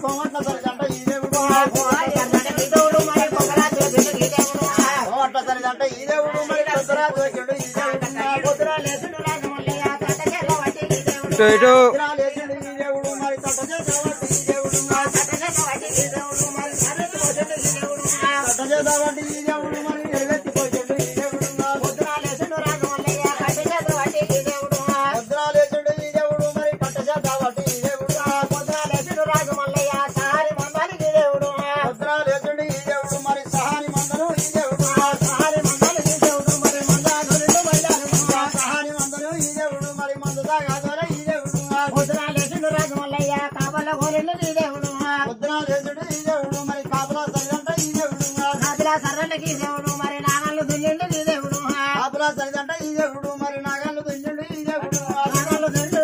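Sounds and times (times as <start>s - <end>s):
tambourine beat: 0.0s - 56.0s.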